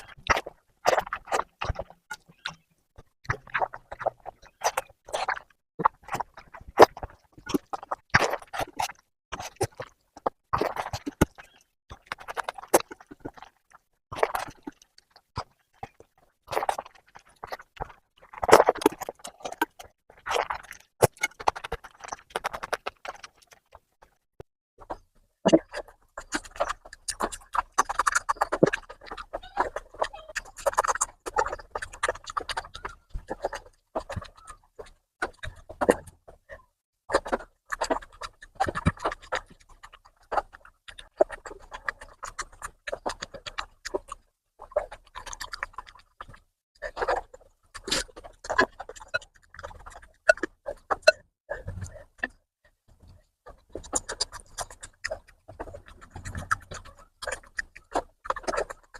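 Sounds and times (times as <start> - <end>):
wet chewing and lip smacking: 0.0 - 58.9.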